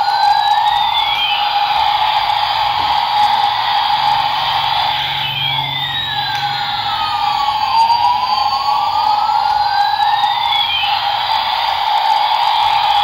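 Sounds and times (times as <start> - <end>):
electronic siren-like wail: 0.0 - 13.0
toy helicopter buzzing tone: 0.0 - 13.0.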